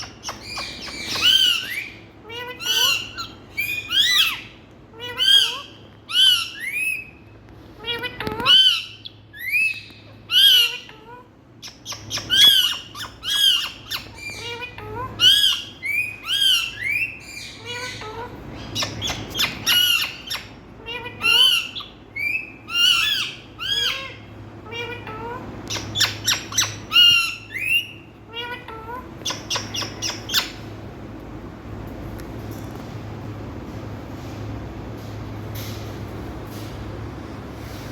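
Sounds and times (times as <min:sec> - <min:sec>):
parakeets squawking: 0:00.0 - 0:30.9
low steady hum: 0:00.0 - 0:37.9.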